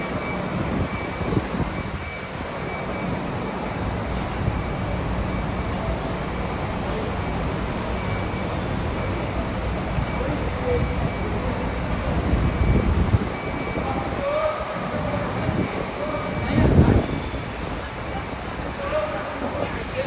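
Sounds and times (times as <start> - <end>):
diesel engine low rumble: 0.0 - 20.0
road traffic noise: 0.0 - 20.0.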